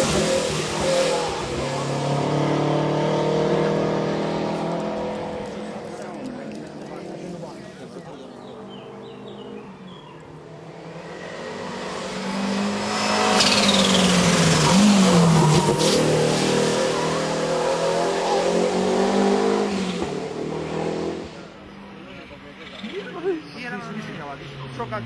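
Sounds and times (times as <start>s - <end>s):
race car passing close: 0.0s - 21.7s.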